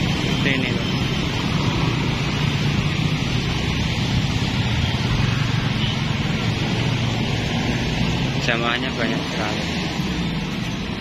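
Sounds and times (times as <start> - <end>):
motorcycles and scooters passing: 0.0 - 11.0.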